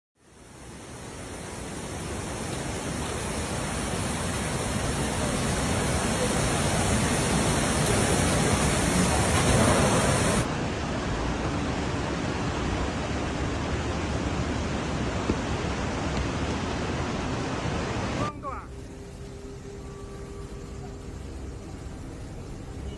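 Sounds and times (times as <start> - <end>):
driving rain: 0.2 - 22.9
storm wind: 0.3 - 19.9.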